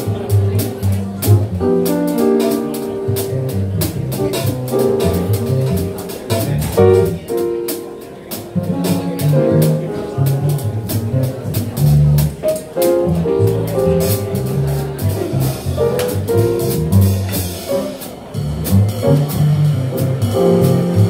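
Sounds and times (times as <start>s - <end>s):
bass line: 0.0s - 21.0s.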